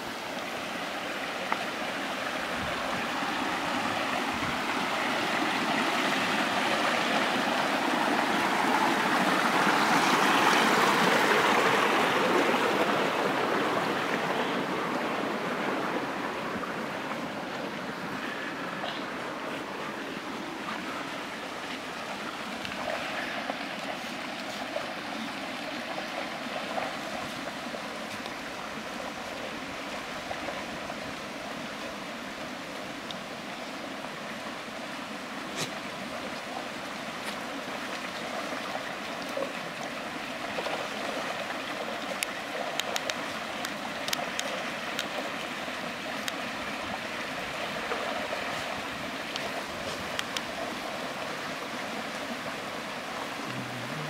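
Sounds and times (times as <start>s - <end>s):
hooves clicking and splashing: 0.0s - 54.0s
stream running over rocks: 0.0s - 54.0s.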